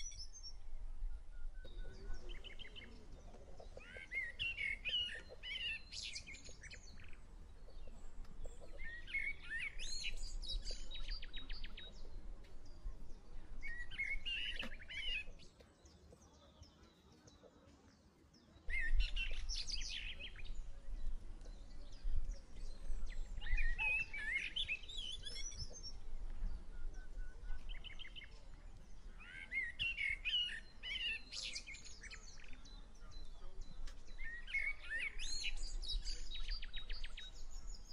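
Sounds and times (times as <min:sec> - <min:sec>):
songbirds chirping: 0:00.0 - 0:37.9.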